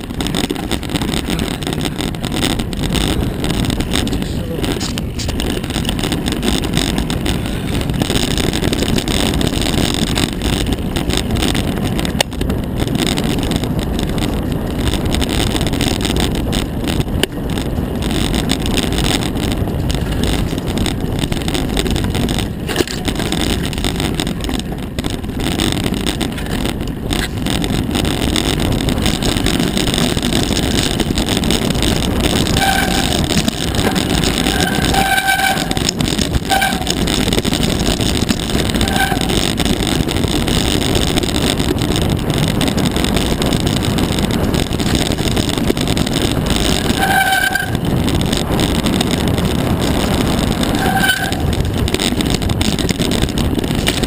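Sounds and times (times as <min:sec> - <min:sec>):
bike rattling: 0:00.0 - 0:54.0
bike tyres rumbling on dirt: 0:00.0 - 0:54.0
wind buffeting microphone: 0:00.0 - 0:54.0.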